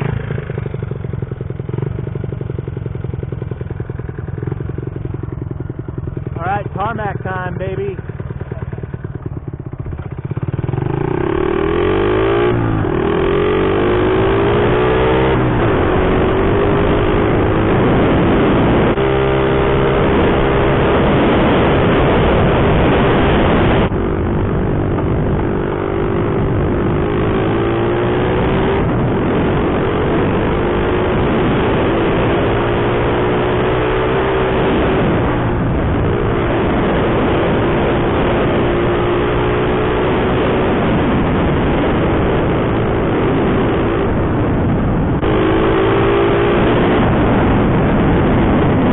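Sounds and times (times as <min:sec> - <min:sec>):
small motorbike engine revving: 0:08.2 - 0:48.9.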